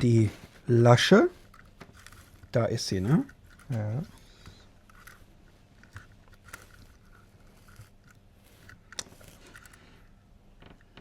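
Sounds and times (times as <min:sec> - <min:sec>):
small parts clicking and tapping: 0:01.4 - 0:11.0.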